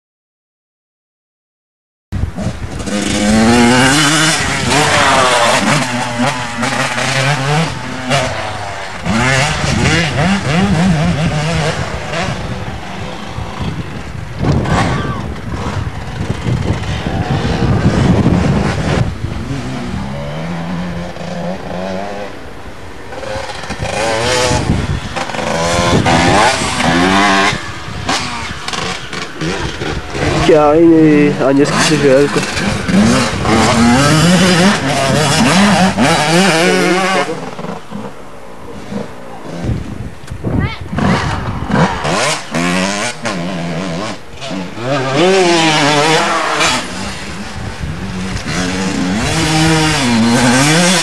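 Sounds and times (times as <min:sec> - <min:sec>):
motocross bike engines revving: 0:02.2 - 0:51.0.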